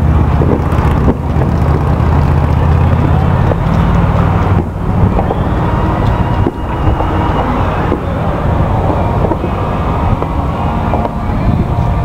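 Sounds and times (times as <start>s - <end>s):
low rumble: 0.0s - 12.0s
muffled firework bursts: 0.0s - 12.0s.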